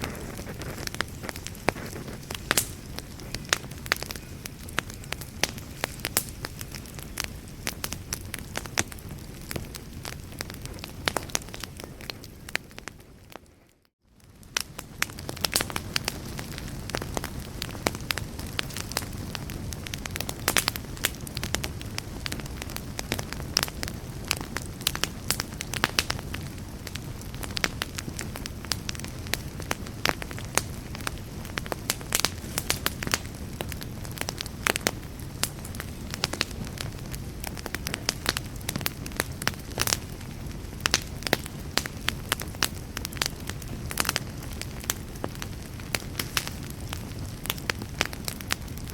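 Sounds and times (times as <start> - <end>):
fire crackling in fireplace: 0.0 - 48.9.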